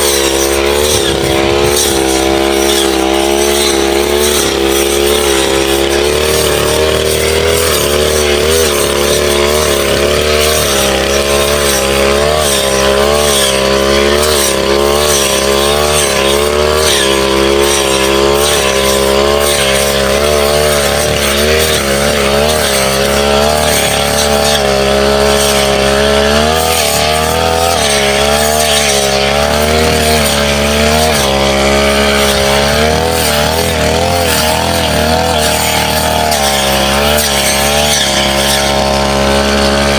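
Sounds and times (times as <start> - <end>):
brush cutter engine high revs: 0.0 - 39.9.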